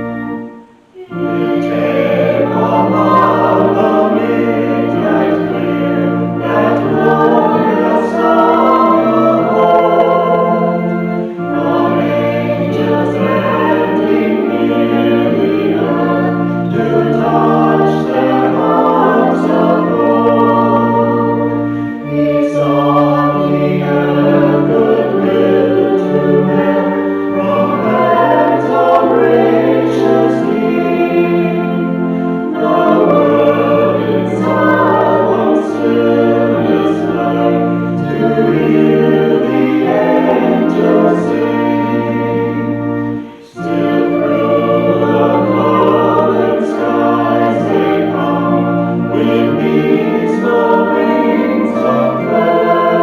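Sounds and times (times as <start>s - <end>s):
choir singing a hymn: 0.0s - 53.0s
instrumental accompaniment: 0.0s - 53.0s.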